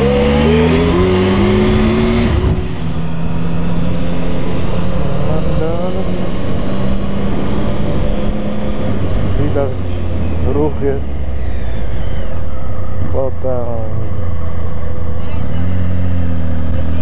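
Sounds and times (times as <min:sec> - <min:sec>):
motorcycle engine cruising: 0:00.0 - 0:17.0
road and wind noise: 0:00.0 - 0:17.0.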